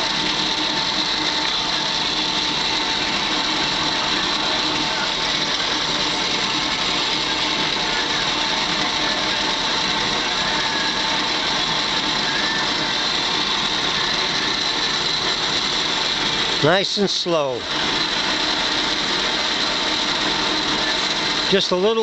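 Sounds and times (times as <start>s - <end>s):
milling cutter whining on metal: 0.0s - 22.0s.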